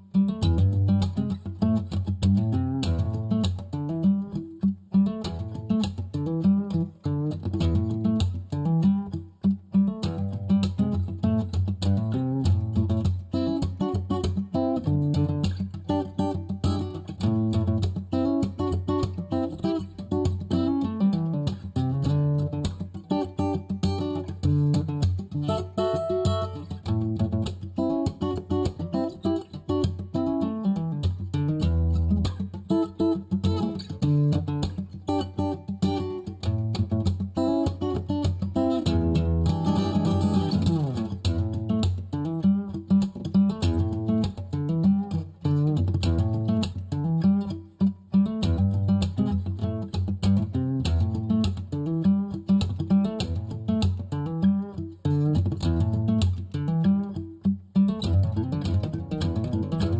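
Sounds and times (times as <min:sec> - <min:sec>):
guitar music over a steady beat: 0:00.0 - 0:59.9.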